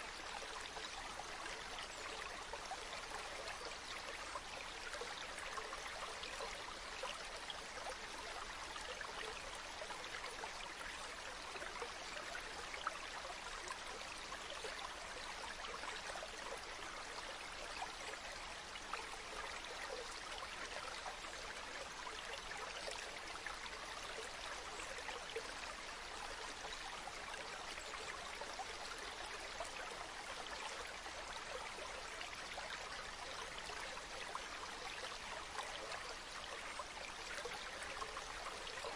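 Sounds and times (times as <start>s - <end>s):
stream water trickling over rocks: 0.0s - 38.9s.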